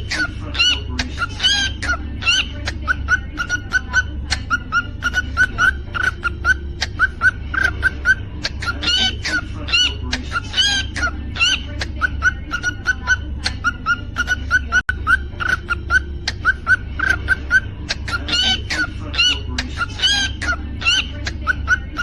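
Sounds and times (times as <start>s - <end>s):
cockatiel singing: 0.0s - 22.0s.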